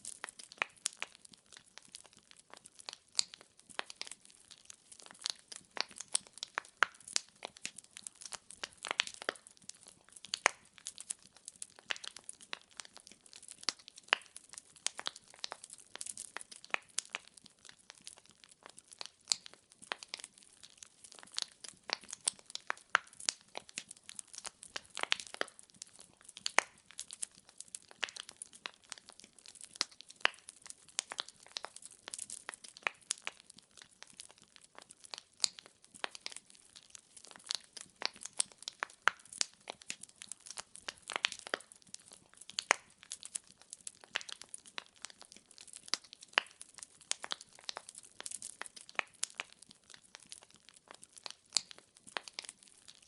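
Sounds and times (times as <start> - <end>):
firewood crackling: 0.0 - 53.0.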